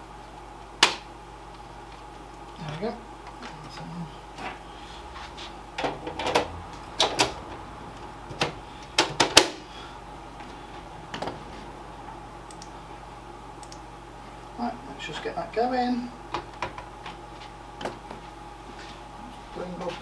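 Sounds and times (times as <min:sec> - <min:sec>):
computer fans humming: 0:00.0 - 0:20.0.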